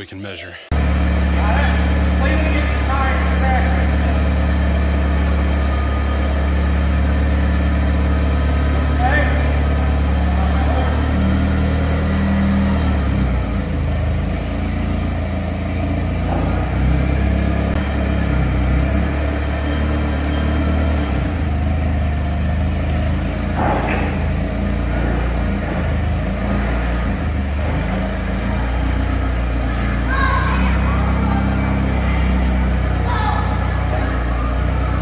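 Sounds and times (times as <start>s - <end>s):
forklift engine idling: 0.7s - 35.0s.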